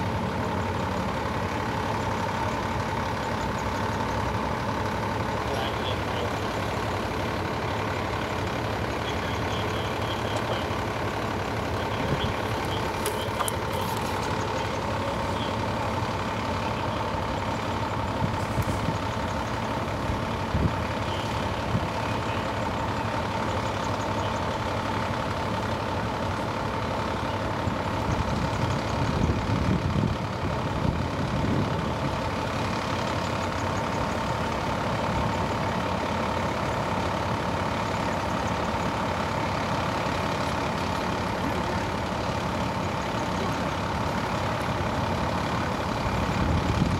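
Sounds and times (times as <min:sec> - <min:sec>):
diesel truck engine idling: 0:00.0 - 0:46.9.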